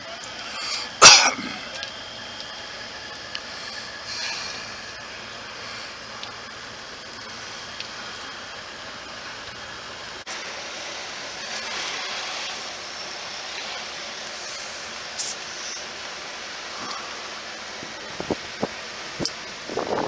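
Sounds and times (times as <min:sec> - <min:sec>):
low hum: 0:00.0 - 0:20.0
rushing outdoor noise: 0:00.0 - 0:20.0.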